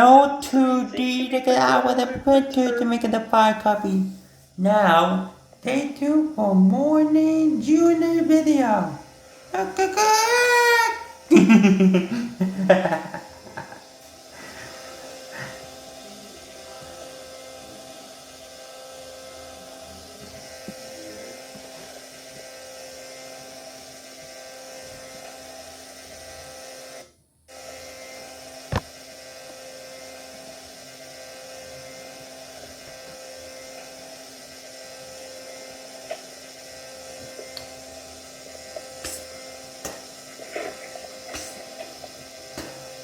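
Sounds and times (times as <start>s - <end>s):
electrical hum: 0.0s - 43.0s.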